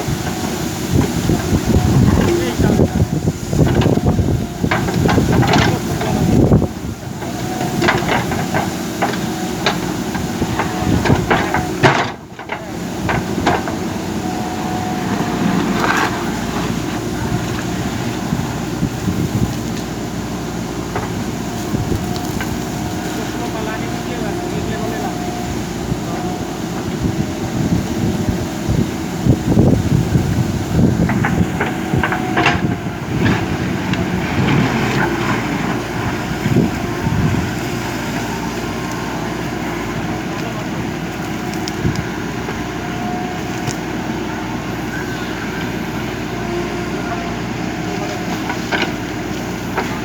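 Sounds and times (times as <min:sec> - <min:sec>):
diesel engine running under load: 0:00.0 - 0:50.0.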